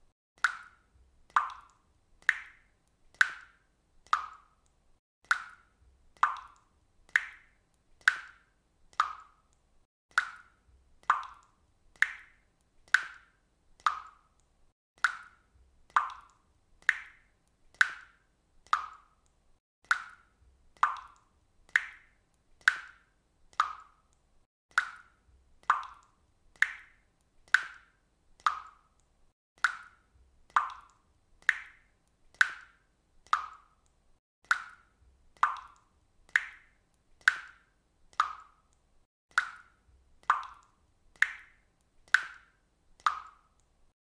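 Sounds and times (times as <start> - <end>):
water dripping from faucet: 0.4 - 44.0.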